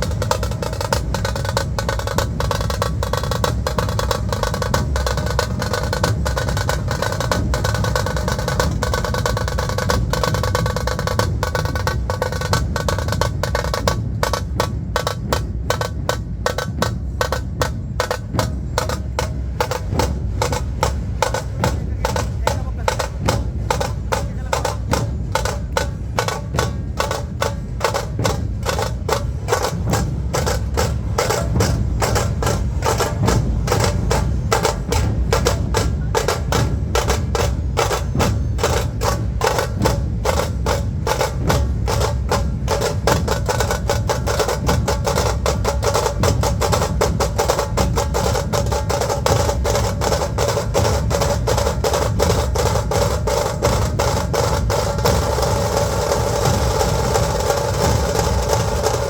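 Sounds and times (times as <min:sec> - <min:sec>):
drums playing fast rhythm: 0:00.0 - 0:59.0.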